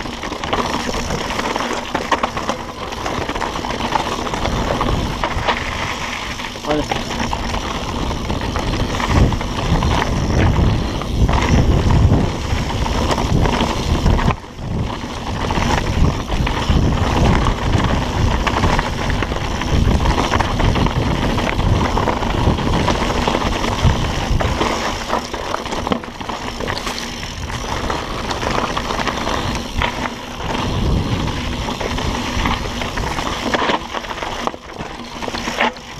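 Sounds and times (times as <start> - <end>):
bike rattling: 0.0 - 35.9
tyres rumbling on dirt: 0.0 - 35.9
wind buffeting microphone: 2.8 - 34.2.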